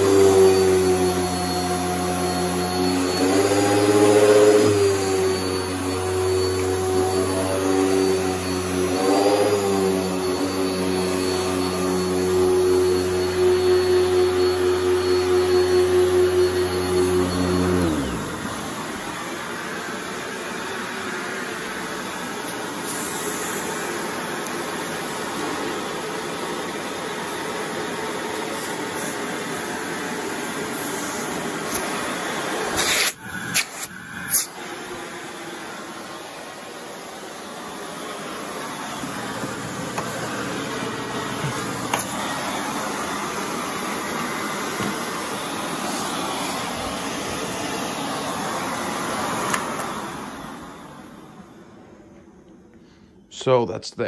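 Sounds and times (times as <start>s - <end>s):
vacuum cleaner on carpet: 0.0s - 52.4s.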